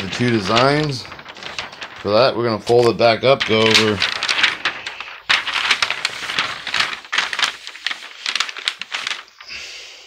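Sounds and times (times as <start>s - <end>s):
plastic sheets rustling and crinkling: 0.0s - 9.7s.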